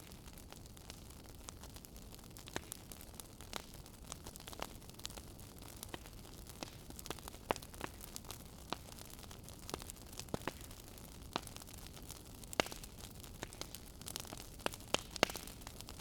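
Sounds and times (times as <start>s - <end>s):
soft hiss of fire: 0.0s - 16.0s
wood fire crackling and popping: 0.0s - 16.0s.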